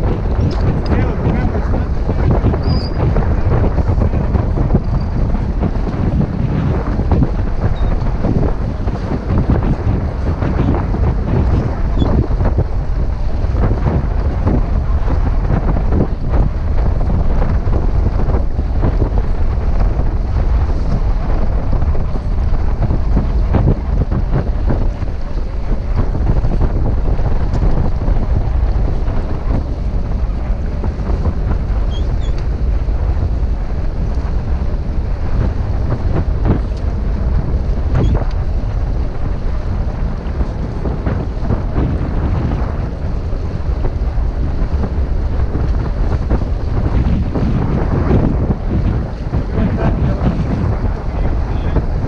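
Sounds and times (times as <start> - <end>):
water washing along hull: 0.0 - 52.0
wind buffeting microphone: 0.0 - 52.0.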